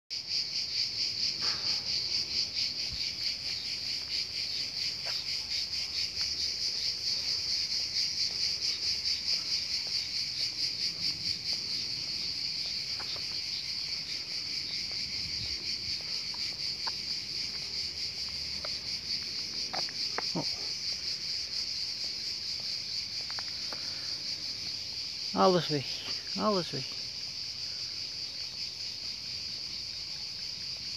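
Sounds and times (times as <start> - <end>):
cicadas buzzing: 0.1 - 30.9.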